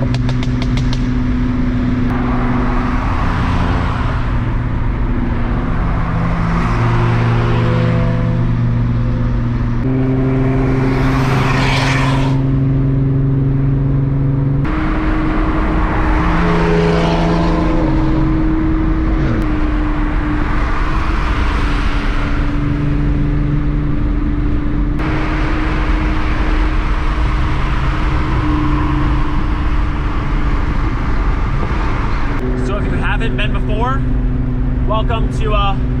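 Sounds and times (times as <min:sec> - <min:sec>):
car engine drone: 0:00.0 - 0:36.0
cars passing: 0:00.0 - 0:36.0
road and wind noise: 0:00.0 - 0:36.0.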